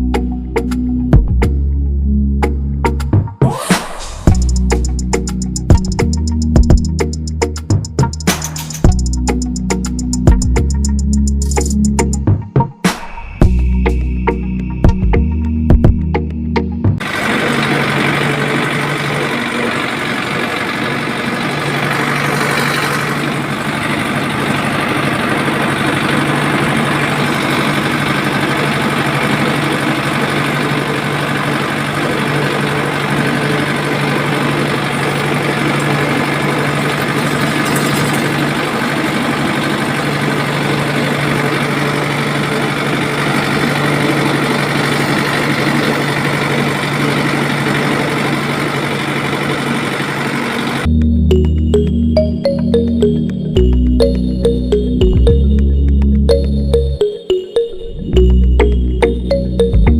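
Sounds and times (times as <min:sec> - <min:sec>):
engine running with low hum: 0:00.0 - 0:59.9.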